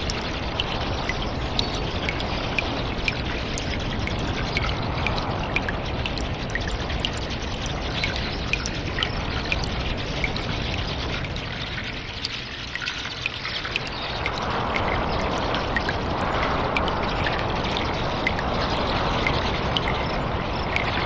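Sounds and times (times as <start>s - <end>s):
water drips echoing: 0.0s - 21.0s
water trickling in a cave: 0.0s - 21.0s.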